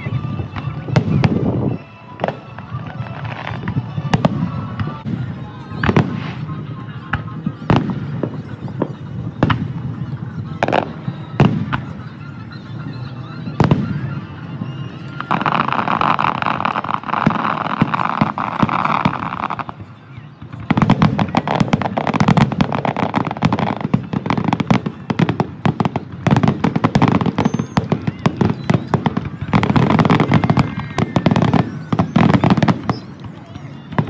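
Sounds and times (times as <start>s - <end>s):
firework bangs: 0.0s - 34.0s
fireworks crackling hiss: 0.0s - 34.0s.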